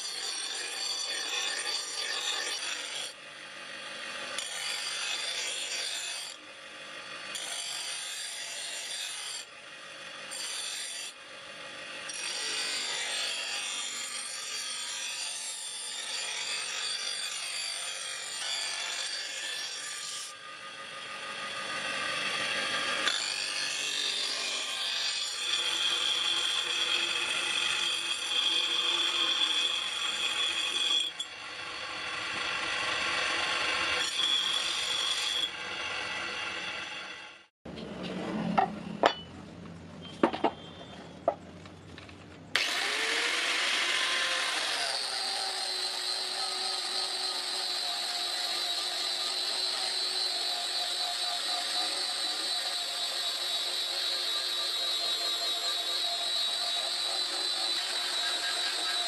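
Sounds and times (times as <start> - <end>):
bench grinder grinding steel: 0.0 - 38.2, 42.5 - 59.0.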